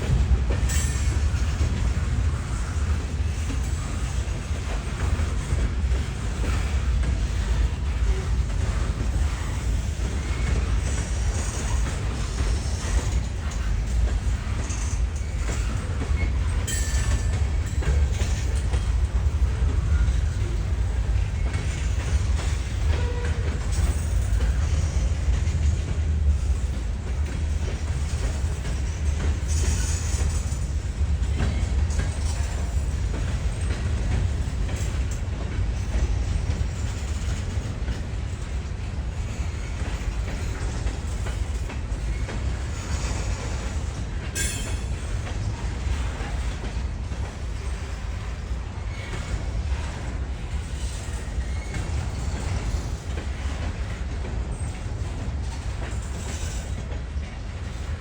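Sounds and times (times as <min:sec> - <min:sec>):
train rumbling past: 0:00.0 - 0:58.0
wheels clicking on rails: 0:00.0 - 0:58.0.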